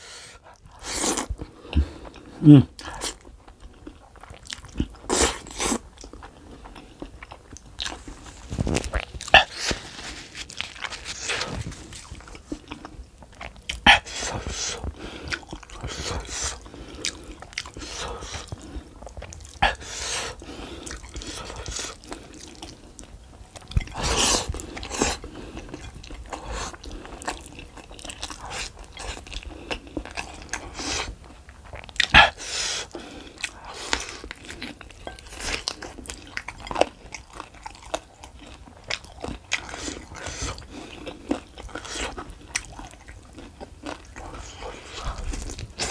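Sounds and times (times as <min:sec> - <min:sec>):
person chewing and biting food: 0:00.5 - 0:45.9.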